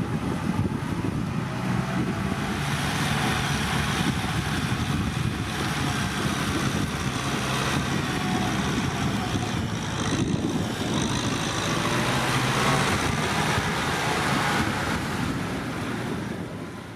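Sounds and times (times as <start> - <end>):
tractor diesel engine running: 0.0 - 16.8.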